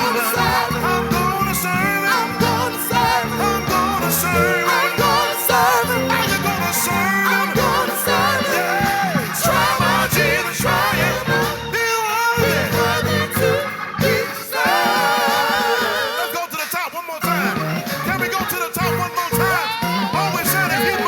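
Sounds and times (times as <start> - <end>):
band accompaniment: 0.0 - 21.0
voices singing with vibrato: 0.0 - 21.0.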